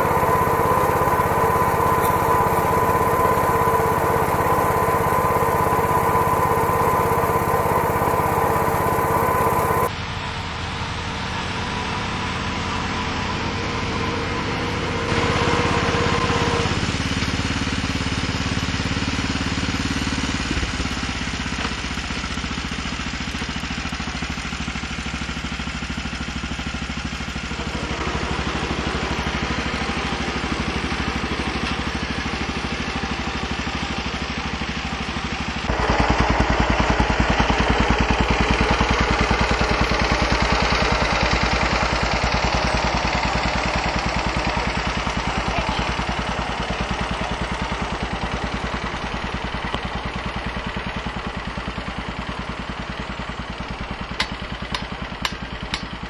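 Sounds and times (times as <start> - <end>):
small tractor engine running: 0.0 - 56.0.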